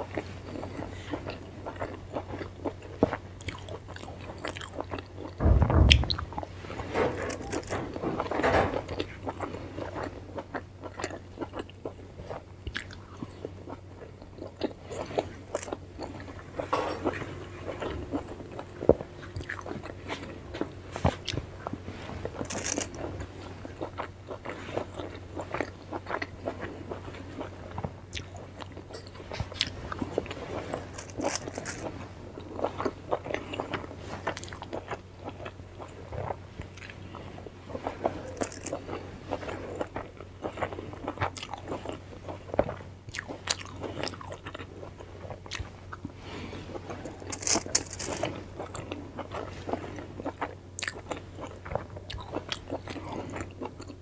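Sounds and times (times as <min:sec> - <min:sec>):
person chewing food: 0:00.0 - 0:06.2, 0:08.9 - 0:54.0.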